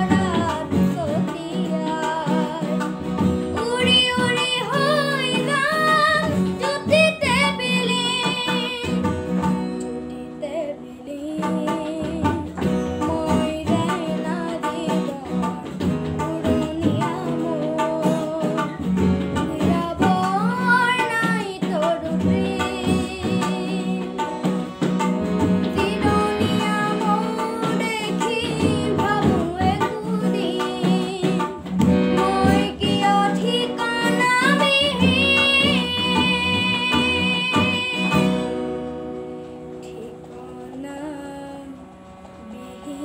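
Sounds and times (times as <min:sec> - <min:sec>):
boy singing: 0:00.0 - 0:39.0, 0:39.7 - 0:43.0
instrumental backing music: 0:00.0 - 0:43.0.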